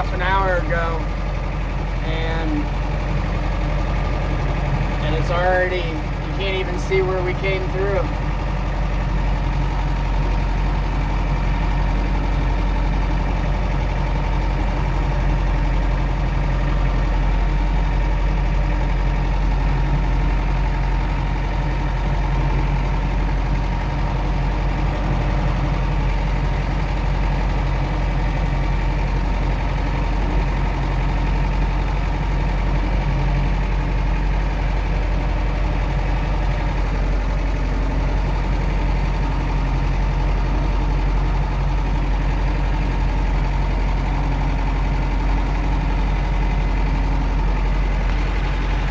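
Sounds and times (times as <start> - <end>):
tractor engine droning: 0.0 - 48.9.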